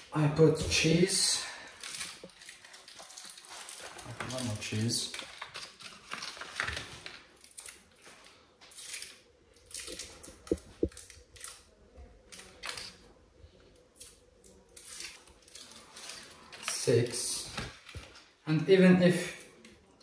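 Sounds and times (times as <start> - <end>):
wrapper rustling and crinkling: 0.9 - 13.1, 14.5 - 18.4.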